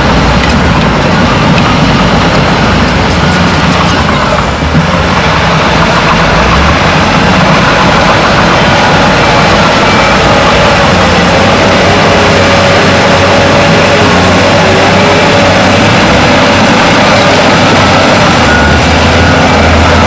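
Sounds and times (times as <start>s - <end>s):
diesel machinery engine drone: 0.0s - 20.0s.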